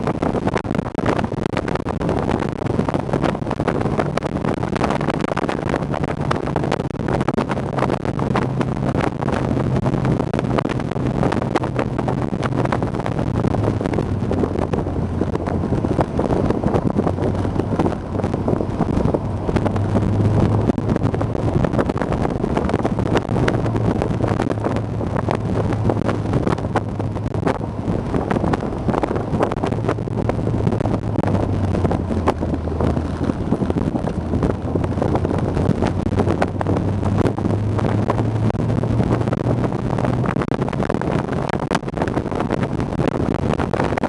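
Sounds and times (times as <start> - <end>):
car engine running: 0.0 - 44.0
wind buffeting microphone: 0.0 - 44.0.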